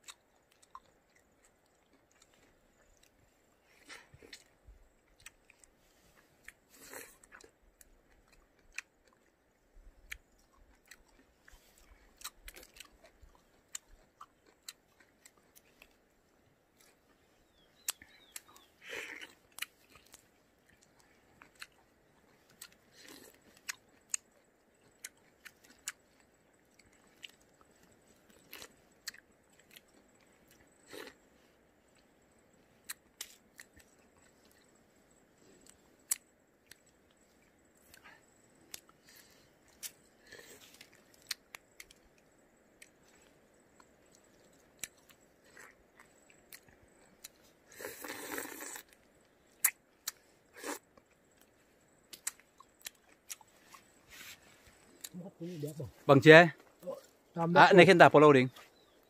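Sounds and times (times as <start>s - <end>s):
biting fruit: 0.0s - 32.2s, 32.8s - 55.3s
person chewing citrus fruit: 0.0s - 57.4s, 58.5s - 59.0s.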